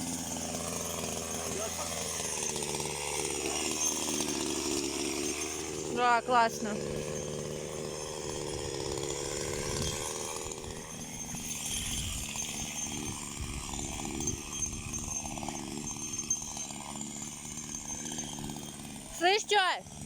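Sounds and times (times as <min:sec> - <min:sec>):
small petrol engine running: 0:00.0 - 0:20.0.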